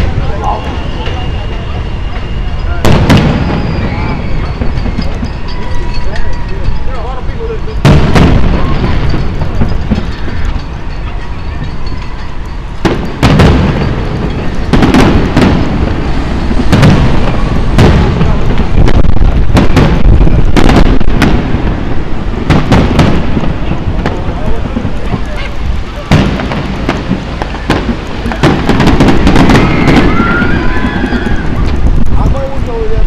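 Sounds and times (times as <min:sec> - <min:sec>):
fireworks bursting with loud bangs: 0:00.0 - 0:33.0.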